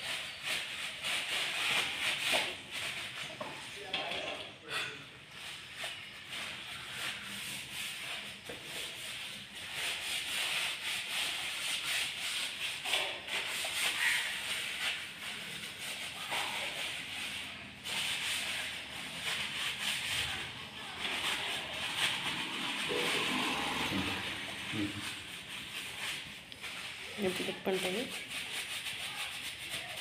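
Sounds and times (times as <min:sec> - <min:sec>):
cloth rubbing on metal: 0:00.0 - 0:04.4, 0:05.3 - 0:30.0.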